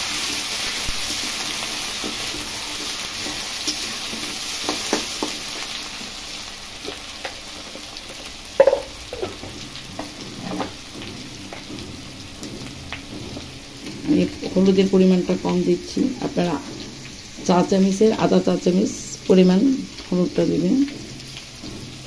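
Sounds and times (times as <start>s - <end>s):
potatoes sizzling in oil: 0.0s - 22.0s.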